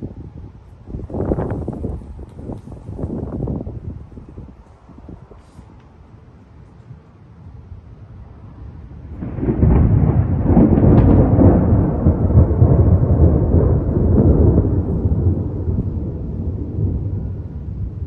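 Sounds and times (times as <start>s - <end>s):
thunderclap rumbling: 0.0s - 18.0s.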